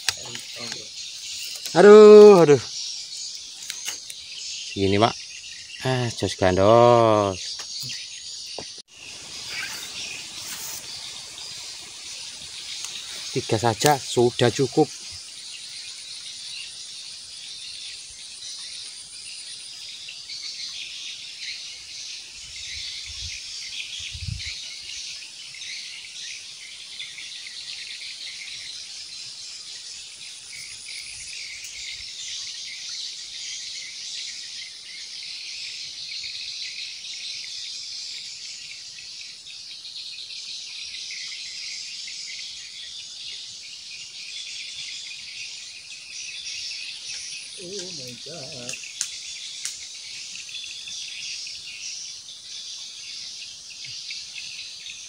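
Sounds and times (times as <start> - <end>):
insects buzzing and chirring: 0.0 - 55.0.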